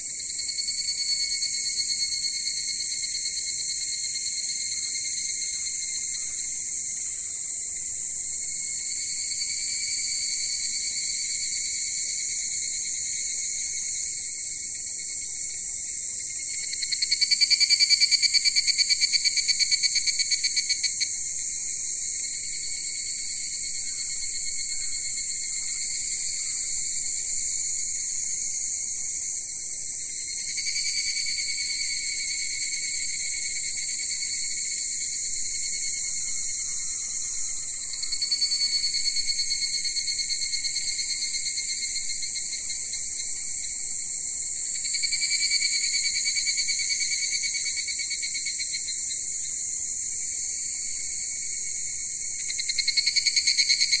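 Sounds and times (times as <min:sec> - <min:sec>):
insects trilling chorus: 0:00.0 - 0:54.0.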